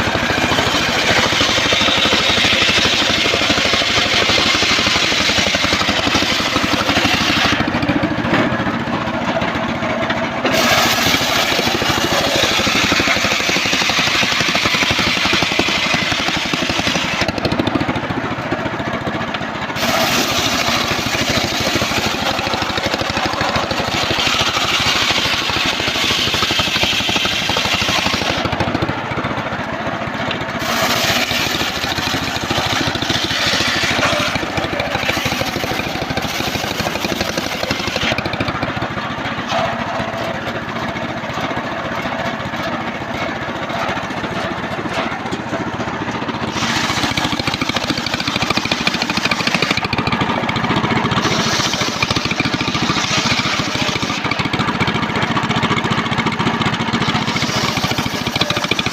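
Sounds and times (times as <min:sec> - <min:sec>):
circular sawmill sawing timber: 0:00.0 - 0:58.9.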